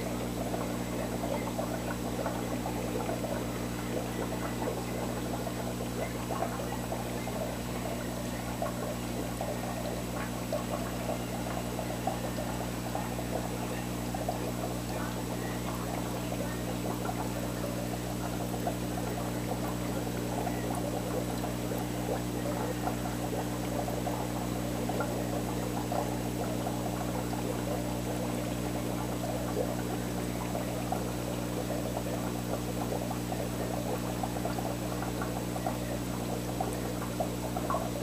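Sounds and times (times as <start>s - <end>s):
aquarium pump humming: 0.0s - 38.0s
water bubbling and trickling: 0.0s - 38.0s.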